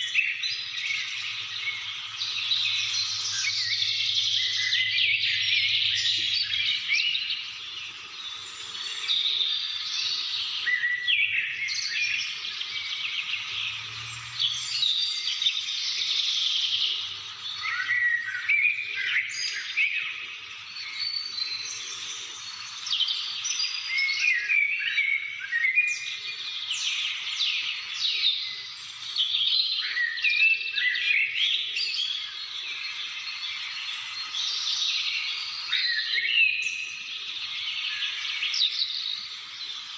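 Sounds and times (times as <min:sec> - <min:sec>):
birds chirping chorus: 0:00.0 - 0:39.9.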